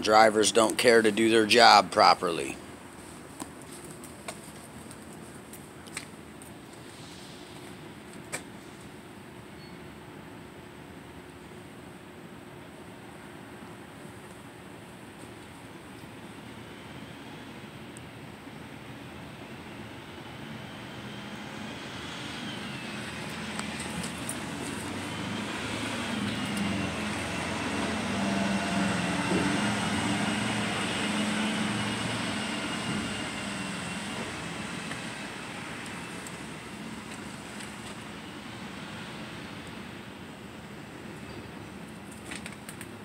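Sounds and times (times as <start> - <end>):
passing engine hum and whine: 0.0 - 43.0.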